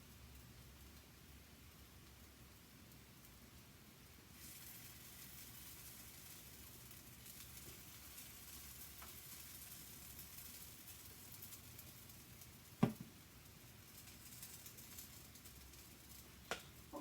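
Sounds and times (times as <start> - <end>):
batter sizzling in a frying pan: 0.0 - 17.0.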